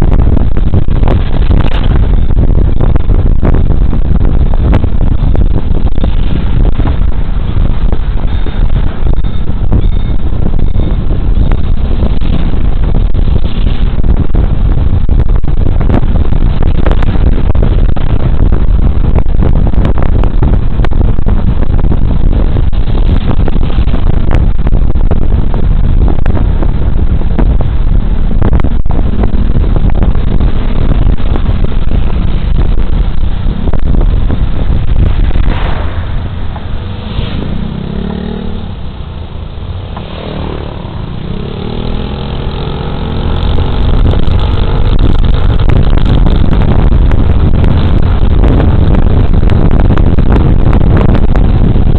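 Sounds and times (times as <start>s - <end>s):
heavy wind noise on microphone: 0.0s - 51.9s
road noise: 0.0s - 51.9s.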